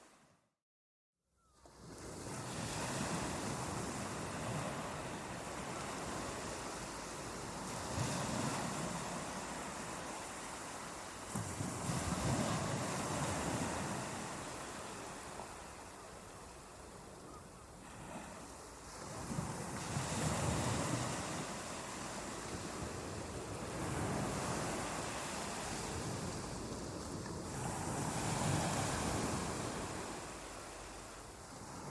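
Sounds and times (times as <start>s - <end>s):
ocean waves breaking on beach: 1.8s - 16.2s, 17.8s - 31.9s.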